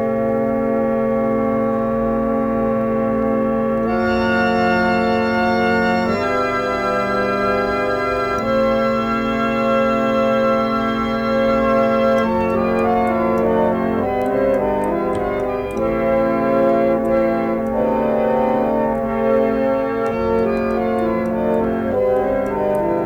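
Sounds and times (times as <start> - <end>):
organ-like keyboard chords: 0.0 - 23.0.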